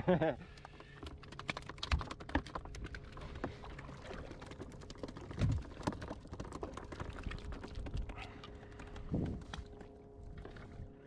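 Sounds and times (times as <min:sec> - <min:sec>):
clicks and knocks in plastic bucket: 0:00.4 - 0:09.8.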